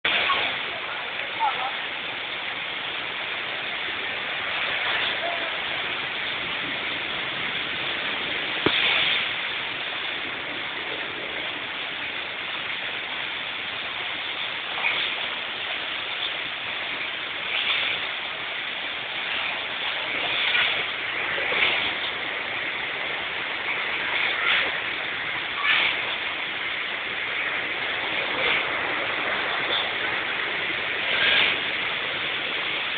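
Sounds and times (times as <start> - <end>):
heavy rain: 0.0 - 32.9
rushing floodwater: 0.0 - 32.9.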